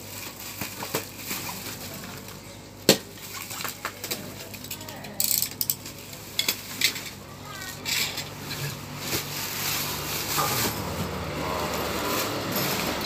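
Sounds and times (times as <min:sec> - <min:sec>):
plastic wrap rustling and crackling: 0:00.0 - 0:13.0.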